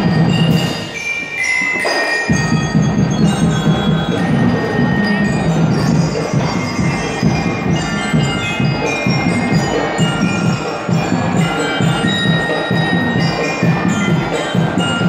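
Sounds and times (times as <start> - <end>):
steady drum beat: 0.0 - 1.0, 2.3 - 15.0
bell lyres playing melody: 0.0 - 15.0.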